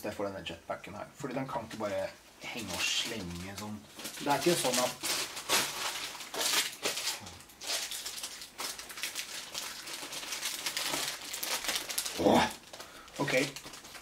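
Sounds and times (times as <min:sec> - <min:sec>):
plastic bag rustling: 0:01.7 - 0:14.0.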